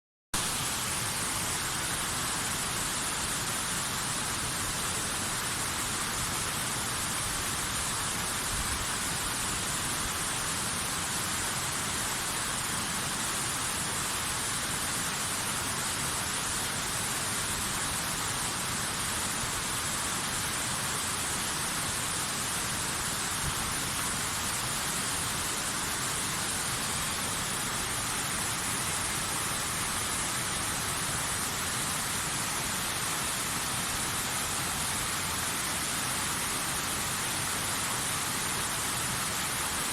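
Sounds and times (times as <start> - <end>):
waterfall rushing: 0.4 - 39.9.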